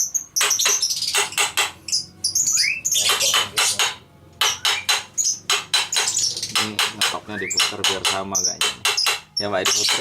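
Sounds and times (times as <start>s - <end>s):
hammer tapping on metal: 0.4s - 1.8s, 3.0s - 10.0s.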